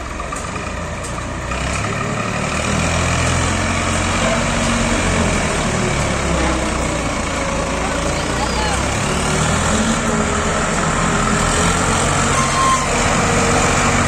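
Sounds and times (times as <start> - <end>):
tractor diesel engine straining: 0.0 - 14.0.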